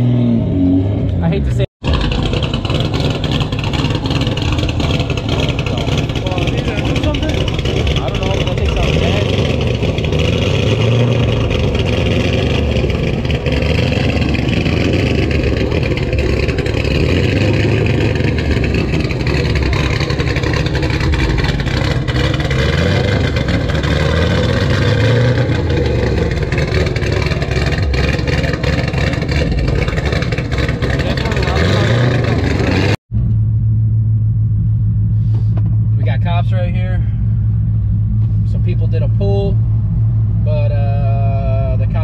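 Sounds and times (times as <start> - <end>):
car engine running: 1.1 - 42.0.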